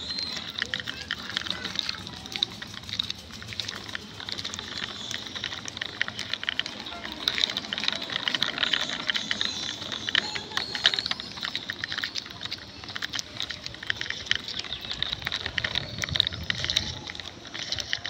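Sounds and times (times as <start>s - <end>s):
toy wheels rattling on concrete: 0.0s - 18.0s.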